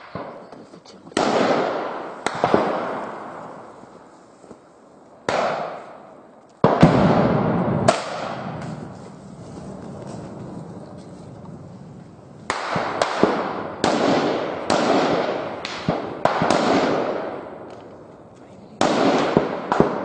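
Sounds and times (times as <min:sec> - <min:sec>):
gunshots with rolling echo: 0:00.0 - 0:00.5, 0:01.1 - 0:04.1, 0:04.8 - 0:20.0.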